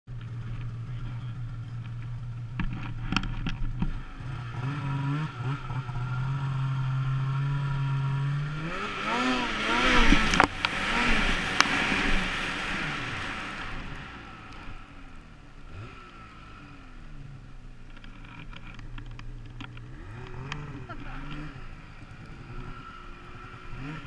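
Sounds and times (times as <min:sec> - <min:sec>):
snowmobile engine idling and revving: 0:00.1 - 0:24.0.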